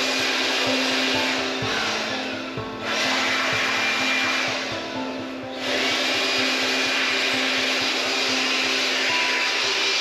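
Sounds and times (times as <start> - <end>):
handheld blower whine: 0.0 - 10.0.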